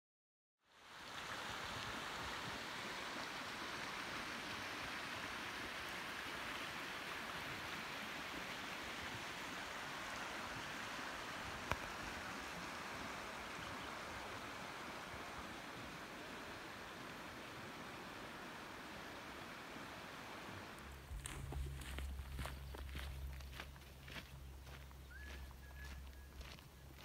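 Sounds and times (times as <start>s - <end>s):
river rushing: 0.7s - 22.5s.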